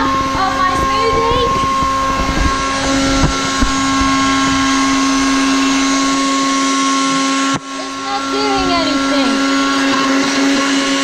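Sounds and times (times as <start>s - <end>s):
blender motor hum: 0.0s - 11.0s.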